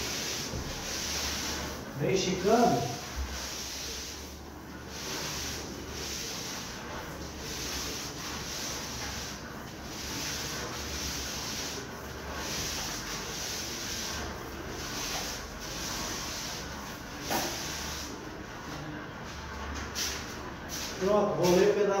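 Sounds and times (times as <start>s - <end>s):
paint roller rasping on wall: 0.0s - 18.7s.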